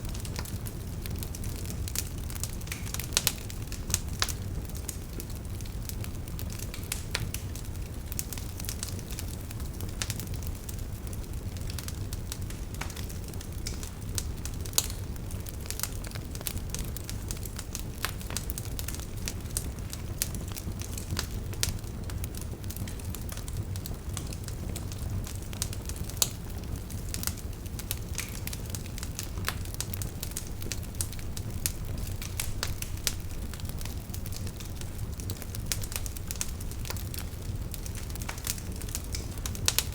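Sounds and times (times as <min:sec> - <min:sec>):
fire crackling and popping: 0:00.0 - 0:39.9
wood fire rumbling: 0:00.0 - 0:39.9.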